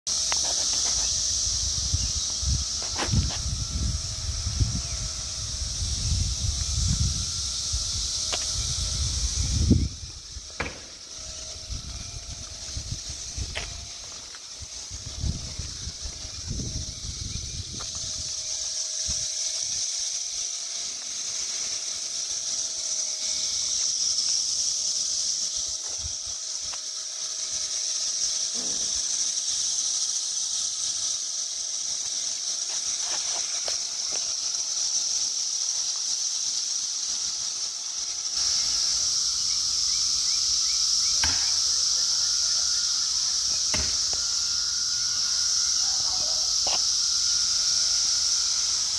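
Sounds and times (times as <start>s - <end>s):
cicadas chorusing: 0.1s - 48.9s.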